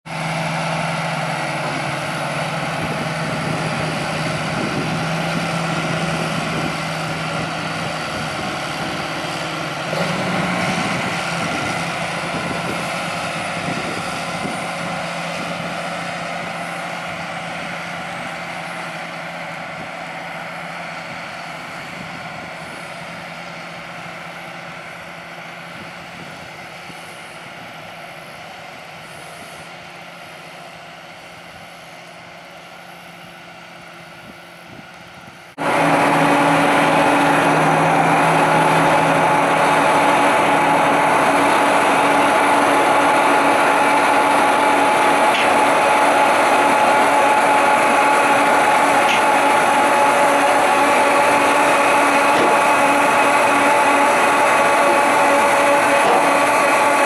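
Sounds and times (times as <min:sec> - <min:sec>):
tractor diesel engine running: 0:00.1 - 0:57.0.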